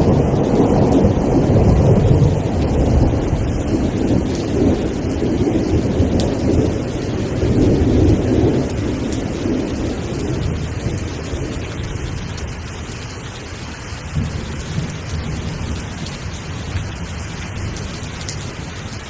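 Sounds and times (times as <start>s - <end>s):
thunder rumble: 0.0s - 13.0s, 14.0s - 18.9s
heavy rain: 0.0s - 19.0s.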